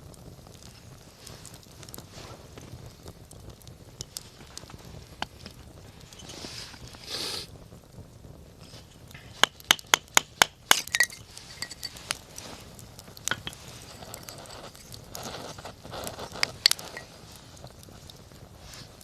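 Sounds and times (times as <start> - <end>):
campfire crackling pops: 0.0 - 19.0
soft hiss of flames: 0.0 - 19.0.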